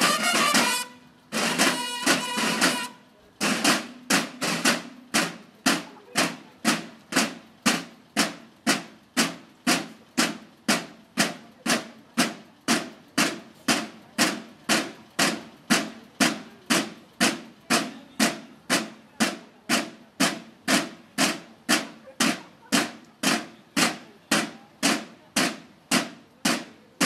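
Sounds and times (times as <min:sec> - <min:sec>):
marching field drums: 0:00.0 - 0:27.0.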